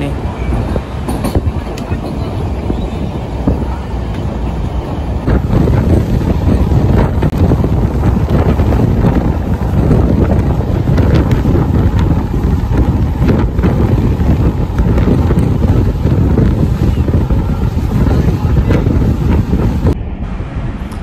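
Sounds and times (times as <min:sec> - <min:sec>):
train rumbling along track: 0:00.0 - 0:21.0
wind buffeting microphone: 0:00.0 - 0:21.0.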